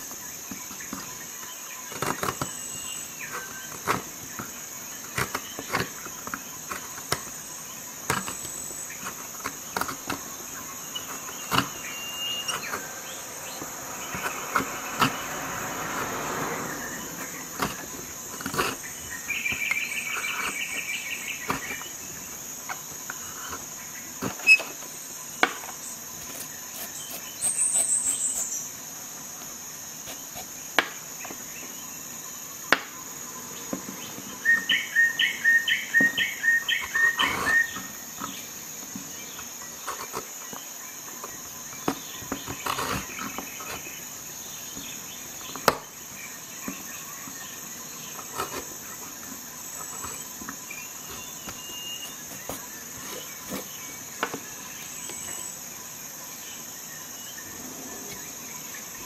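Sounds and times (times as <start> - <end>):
knife scraping wood: 0.5 - 16.2, 16.8 - 31.6, 36.8 - 40.6, 41.2 - 46.0, 46.6 - 55.7.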